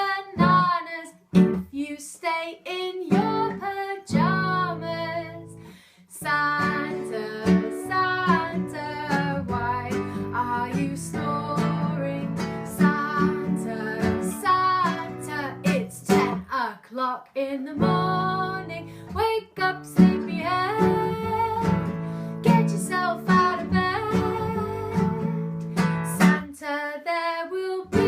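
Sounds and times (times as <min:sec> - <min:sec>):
woman singing: 0:00.0 - 0:28.0
strummed guitar: 0:01.3 - 0:01.7, 0:03.1 - 0:16.5, 0:17.8 - 0:26.5.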